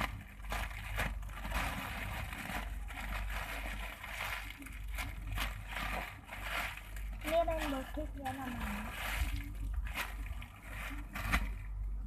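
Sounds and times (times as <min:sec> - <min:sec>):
foam toy rustling in hands: 0:00.0 - 0:12.0
steady low hum: 0:00.0 - 0:12.0.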